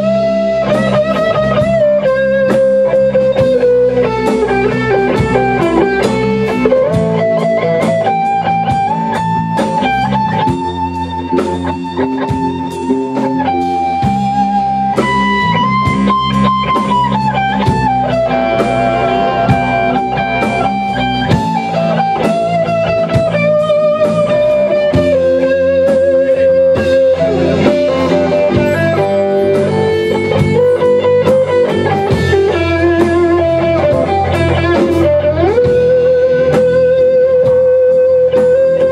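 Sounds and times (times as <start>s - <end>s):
lead electric guitar bent notes: 0.0s - 38.9s
rock band playing: 0.0s - 38.9s.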